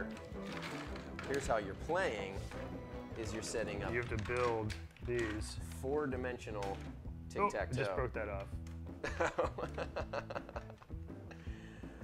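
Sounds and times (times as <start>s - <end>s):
guitar: 0.0s - 12.0s.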